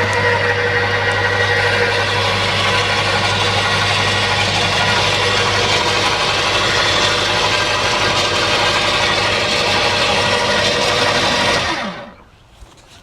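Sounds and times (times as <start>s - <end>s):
chipper shredder grinding: 0.0s - 12.2s
motor winding down: 0.0s - 12.3s.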